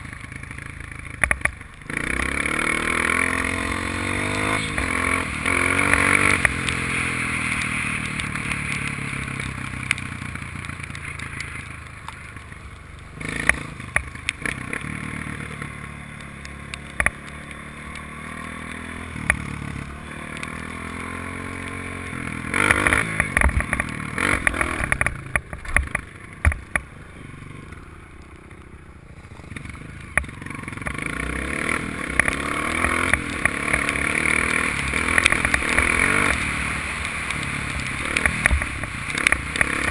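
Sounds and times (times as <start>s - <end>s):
dirt bike engine: 0.0s - 39.9s.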